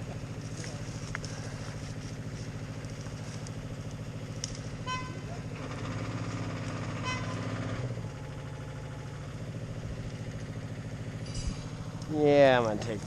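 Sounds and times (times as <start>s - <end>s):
yarder engine running: 0.0s - 13.0s.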